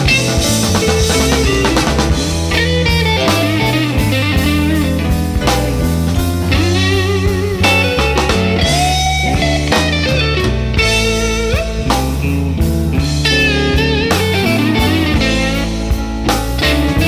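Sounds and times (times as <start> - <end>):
blues-rock electric guitar with band: 0.0 - 17.0.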